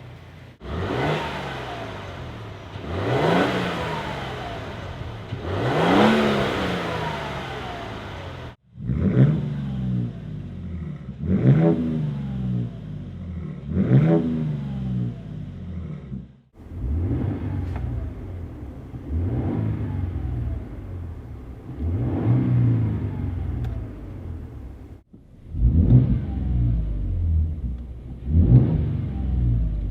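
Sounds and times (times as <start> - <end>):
truck engine revving: 0.0 - 24.6.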